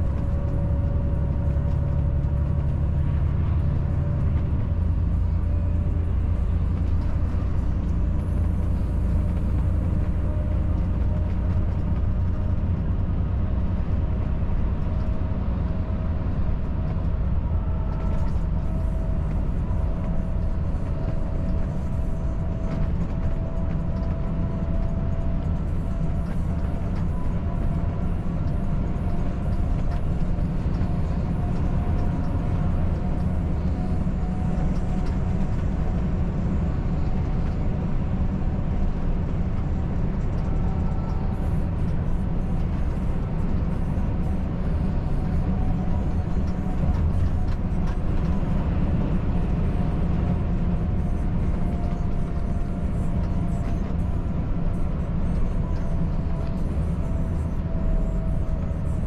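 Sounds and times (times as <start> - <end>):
truck engine droning: 0.0 - 59.0.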